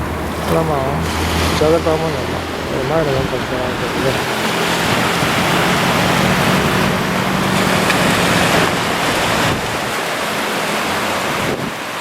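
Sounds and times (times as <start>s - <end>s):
low steady hum: 0.0s - 11.5s
ocean surf breaking: 0.0s - 12.0s
wind on microphone: 0.0s - 12.0s.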